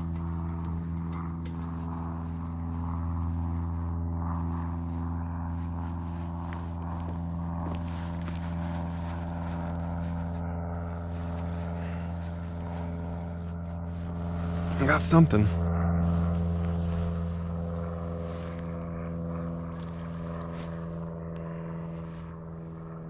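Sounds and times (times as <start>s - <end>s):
low motor drone: 0.0s - 23.0s.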